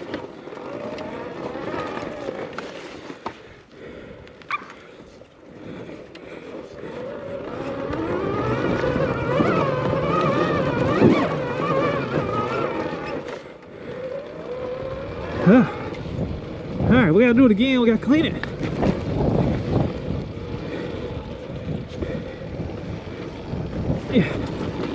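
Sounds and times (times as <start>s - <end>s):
electric dirt bike motor whining: 0.0s - 24.9s.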